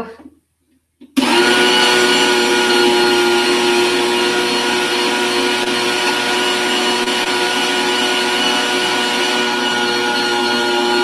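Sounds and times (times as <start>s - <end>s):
food grinder motor whining: 1.1s - 11.0s.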